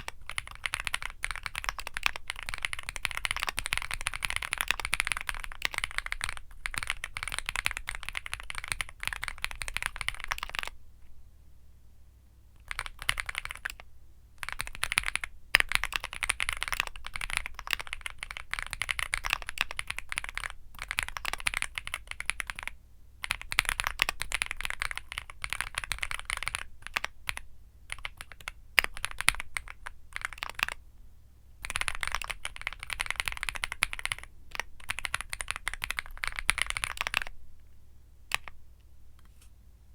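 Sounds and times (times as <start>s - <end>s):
mechanical keyboard typing: 0.0s - 10.8s, 12.6s - 13.8s, 14.4s - 30.8s, 31.6s - 37.3s, 38.3s - 38.6s.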